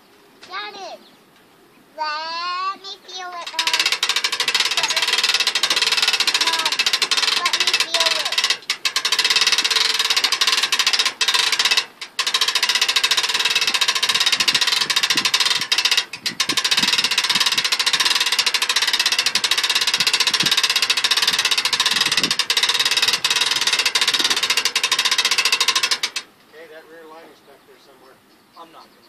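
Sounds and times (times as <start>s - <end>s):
boat trailer winch rattling: 2.8s - 27.2s.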